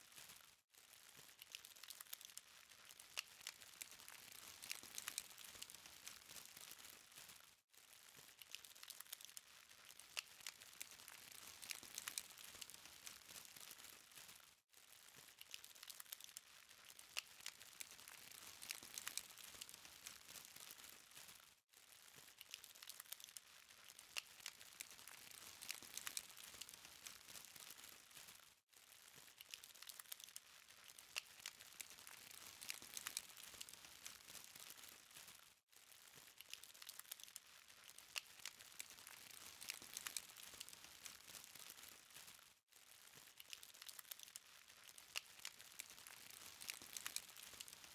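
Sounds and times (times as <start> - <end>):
charcoal crackling and popping: 0.0 - 47.9.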